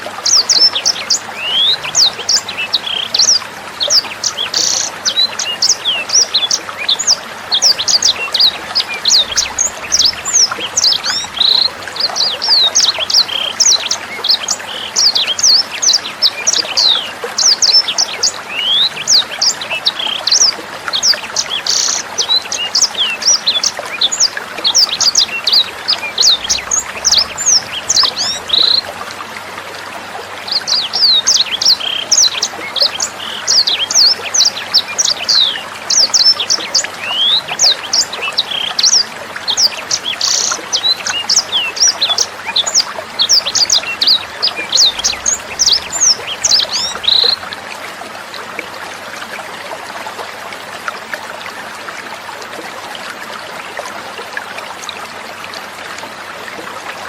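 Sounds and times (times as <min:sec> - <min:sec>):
songbird singing: 0:00.0 - 0:48.7
running water trickling: 0:00.0 - 0:57.0.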